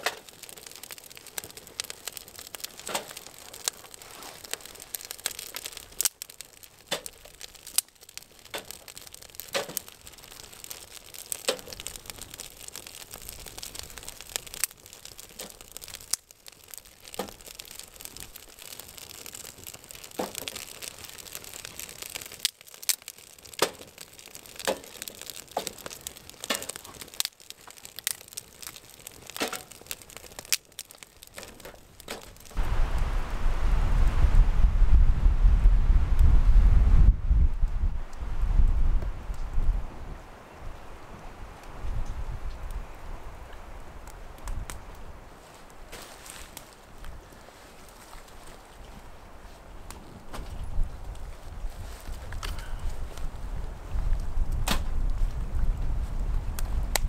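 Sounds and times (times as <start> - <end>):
burning sticks snapping and popping: 0.0 - 33.1, 41.5 - 49.0, 49.8 - 57.0
twig fire crackling: 0.0 - 57.0.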